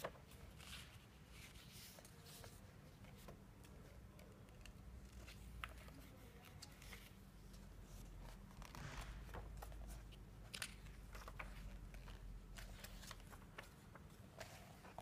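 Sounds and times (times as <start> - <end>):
magazine pages rustling: 0.0 - 3.8, 4.8 - 15.0.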